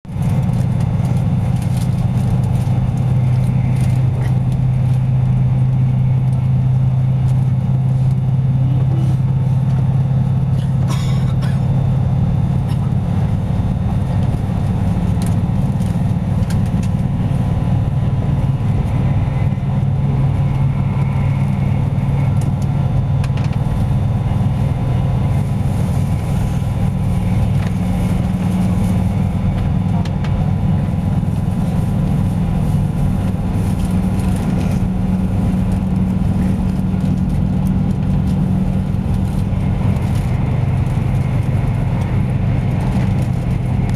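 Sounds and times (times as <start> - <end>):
train interior rumble: 0.0 - 43.9.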